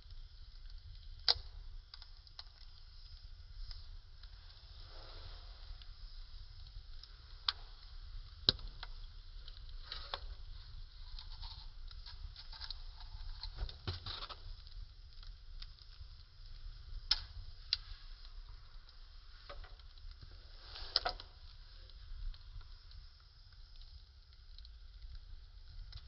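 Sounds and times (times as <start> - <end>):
fire crackling: 0.0 - 26.0
sharp pops of fire: 0.1 - 26.0.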